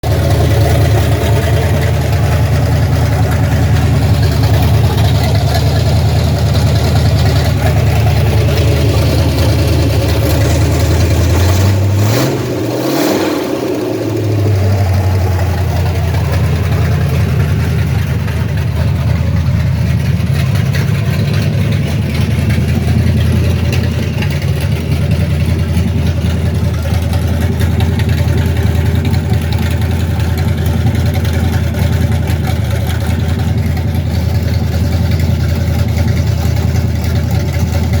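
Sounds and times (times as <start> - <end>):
pickup engine idling: 0.0 - 38.0.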